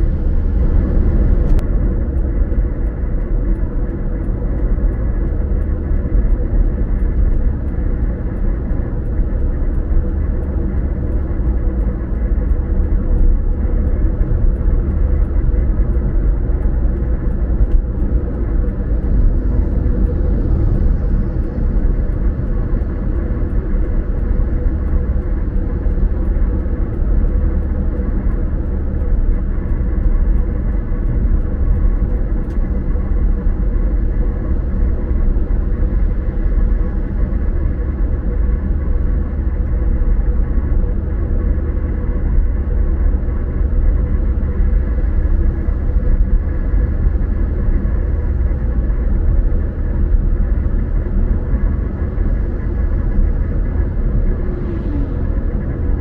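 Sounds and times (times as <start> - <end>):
road rumble inside moving car: 0.0 - 56.0.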